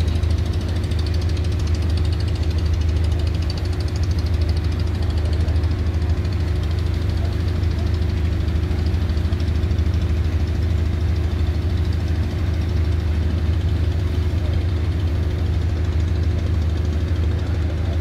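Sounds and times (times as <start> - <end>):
boat engines rumbling: 0.0 - 18.0.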